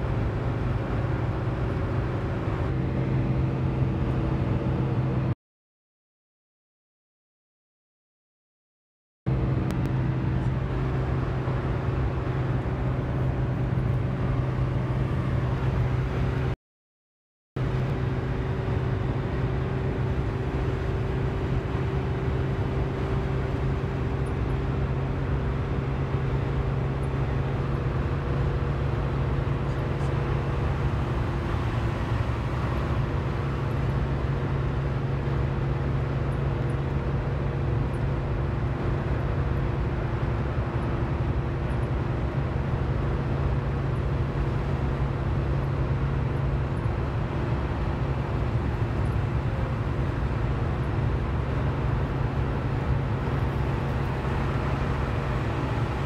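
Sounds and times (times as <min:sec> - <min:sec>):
car road and engine noise: 0:00.0 - 0:05.4, 0:09.3 - 0:16.6, 0:17.6 - 0:56.0.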